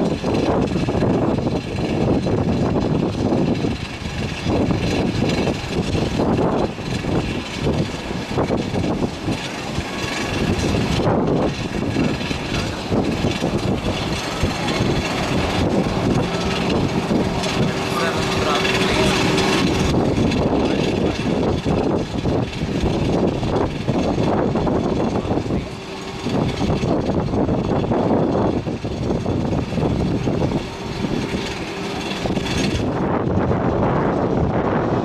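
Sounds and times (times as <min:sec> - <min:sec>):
jet engines rushing: 0:00.0 - 0:35.0
wind buffeting microphone: 0:00.0 - 0:35.0.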